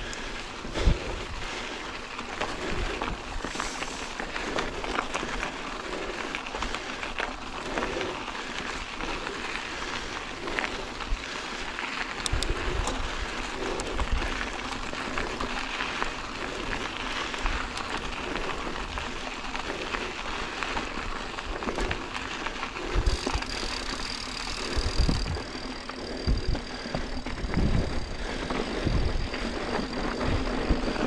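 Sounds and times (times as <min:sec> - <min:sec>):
bike clicks and rattles: 0:00.0 - 0:31.0
bike tyres crunching on gravel: 0:00.0 - 0:31.0.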